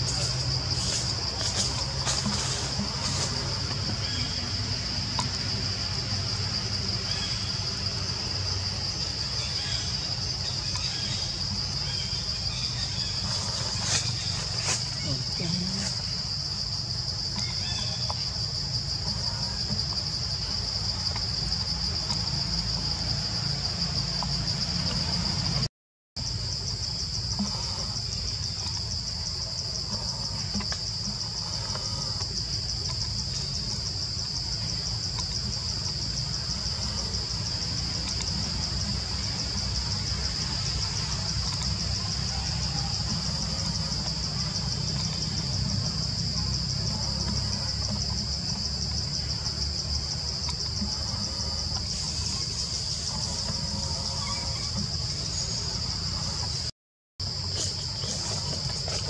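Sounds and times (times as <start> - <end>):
forest insects chorus: 0.0 - 59.0.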